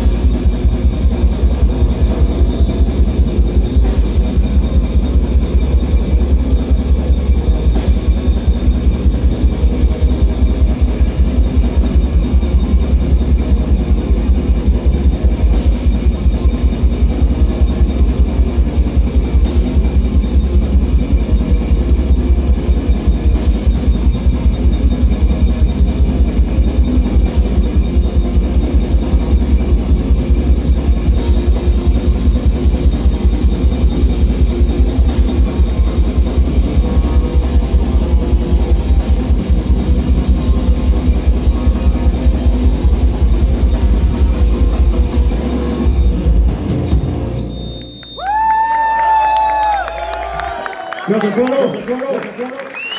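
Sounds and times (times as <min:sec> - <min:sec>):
metal band playing: 0:00.0 - 0:47.7.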